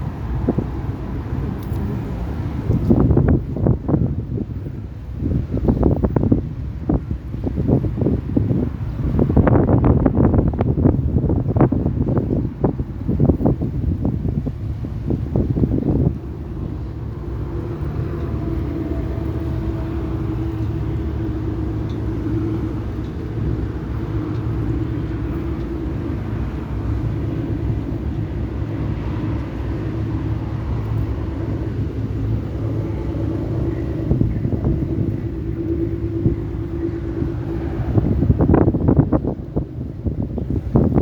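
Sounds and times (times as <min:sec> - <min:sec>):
low engine rumble: 0:00.0 - 0:41.0
wind buffeting microphone: 0:00.0 - 0:41.0.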